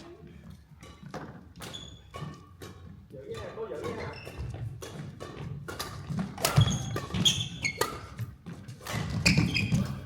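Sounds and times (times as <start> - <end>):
shoes squeaking on court floor: 0.0 - 10.0
racket hitting shuttlecock: 0.8 - 10.0.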